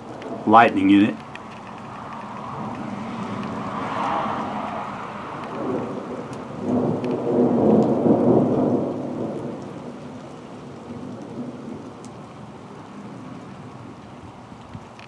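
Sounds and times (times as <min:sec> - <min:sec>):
rolling thunder: 0:01.8 - 0:14.8.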